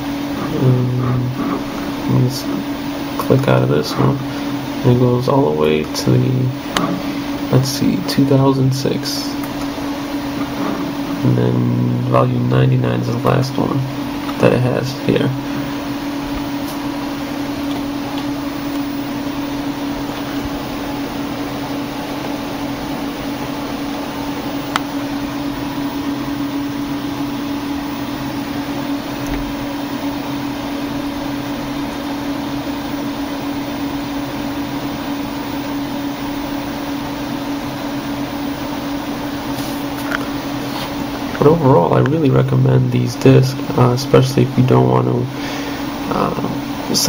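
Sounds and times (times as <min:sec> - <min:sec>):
computer hum with steady tone: 0:00.0 - 0:47.0
soft whir: 0:00.0 - 0:47.0.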